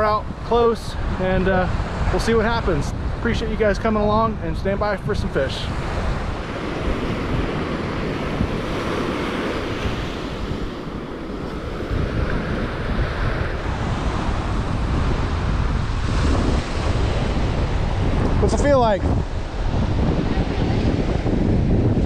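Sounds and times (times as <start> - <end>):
surf breaking on shore: 0.0 - 22.0
wind buffeting microphone: 0.0 - 22.0.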